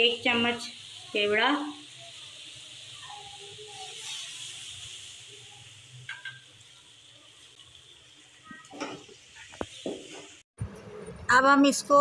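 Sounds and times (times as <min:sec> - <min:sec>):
food sizzling in a pot: 0:00.0 - 0:10.5.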